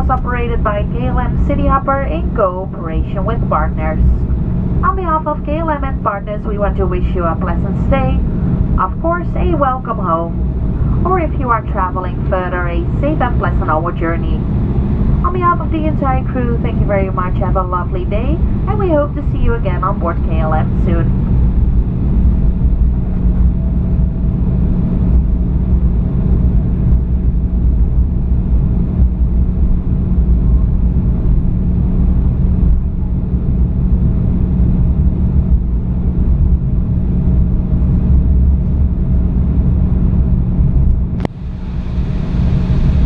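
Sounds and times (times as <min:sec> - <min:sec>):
faint steady hum: 0:00.0 - 0:43.0
jet engine rumble in cabin: 0:00.0 - 0:43.0.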